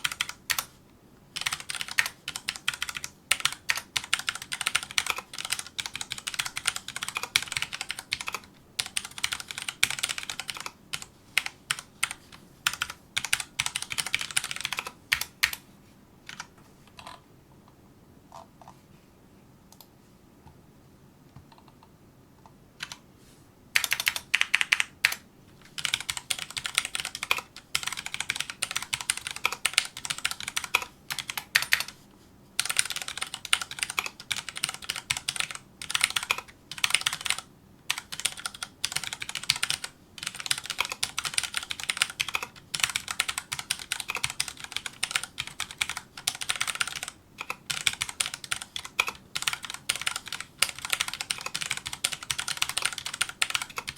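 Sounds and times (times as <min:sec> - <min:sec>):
typing on mechanical keyboard: 0:00.0 - 0:00.7, 0:01.4 - 0:15.6, 0:16.3 - 0:17.2, 0:22.8 - 0:23.0, 0:23.8 - 0:32.0, 0:32.6 - 0:53.9.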